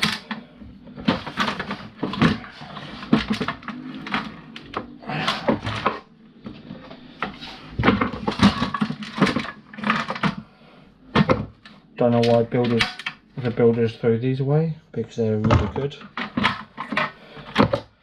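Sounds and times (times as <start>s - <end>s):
plastic and metal parts clattering: 0.0s - 10.5s, 11.1s - 13.9s, 15.4s - 18.0s.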